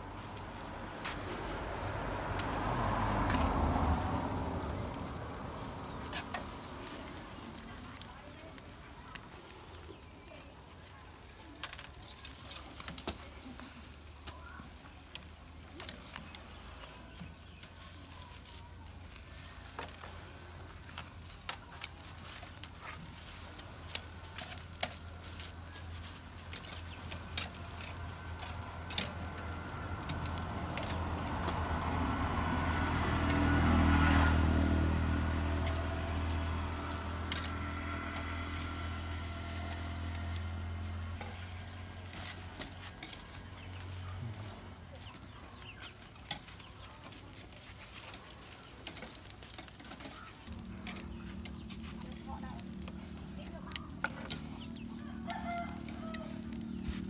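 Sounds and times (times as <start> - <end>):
vehicle engine passing: 0.0 - 57.0.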